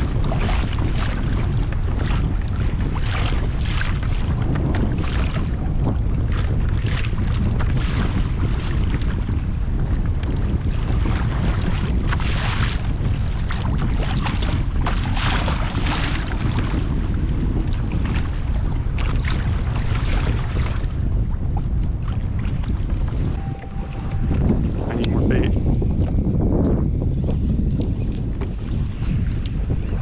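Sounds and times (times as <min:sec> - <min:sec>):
water splashing against boat: 0:00.0 - 0:30.0
wind buffeting microphone: 0:00.0 - 0:30.0.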